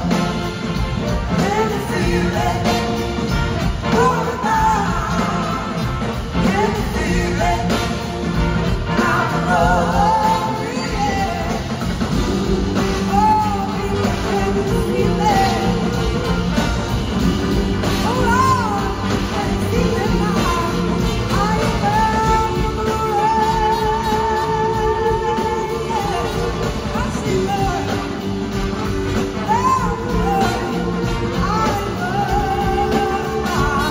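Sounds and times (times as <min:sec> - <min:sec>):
drums: 0:00.0 - 0:33.9
woman singing lead: 0:00.0 - 0:33.9.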